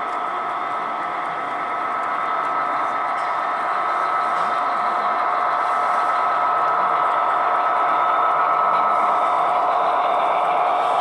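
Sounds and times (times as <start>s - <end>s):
model train wheels whirring on rails: 0.0s - 11.0s.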